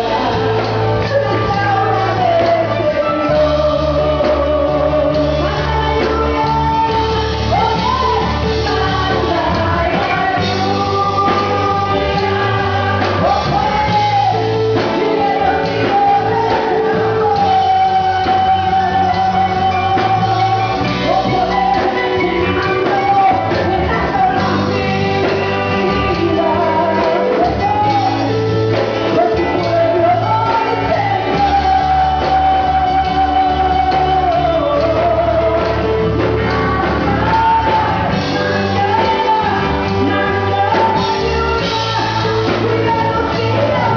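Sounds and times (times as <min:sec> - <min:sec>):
band with steady bass line: 0:00.0 - 0:43.9
person singing a worship song: 0:00.0 - 0:43.9.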